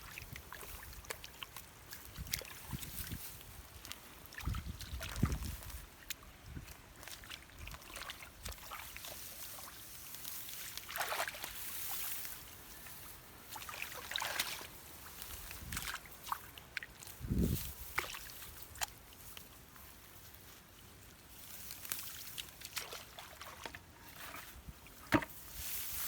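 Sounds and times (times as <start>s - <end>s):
muddy water sloshing and splashing: 0.0s - 26.0s.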